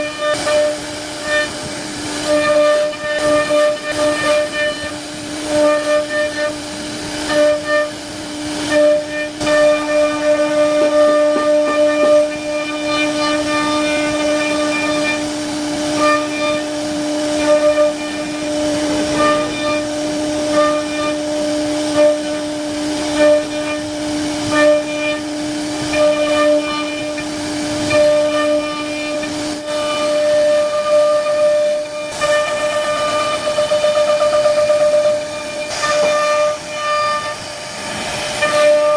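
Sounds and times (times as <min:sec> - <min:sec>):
router bit cutting wood: 0:00.0 - 0:38.9
router spindle whine: 0:00.0 - 0:38.9.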